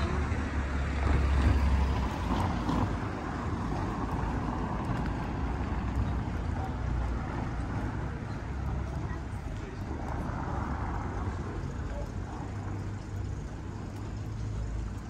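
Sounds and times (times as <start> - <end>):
traffic hum: 0.0 - 15.0
wind rumbling on microphone: 0.0 - 15.0.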